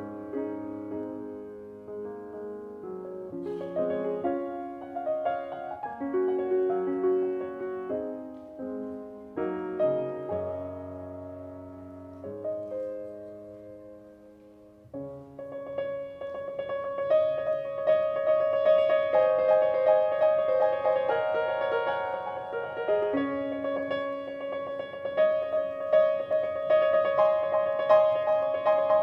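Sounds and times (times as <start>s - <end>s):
slow gentle solo piano: 0.0s - 29.0s.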